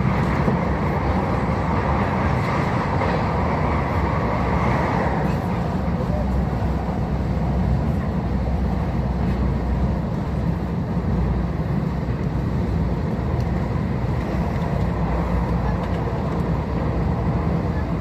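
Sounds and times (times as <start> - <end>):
train rumble inside passenger car: 0.0 - 18.0.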